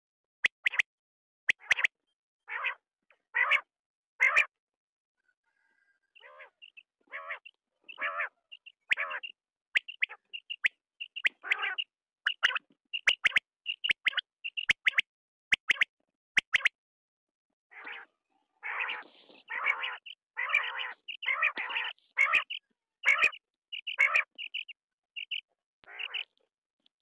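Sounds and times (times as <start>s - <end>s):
quail calling: 1.5s - 1.9s, 2.5s - 4.5s, 5.2s - 16.7s, 17.7s - 26.4s.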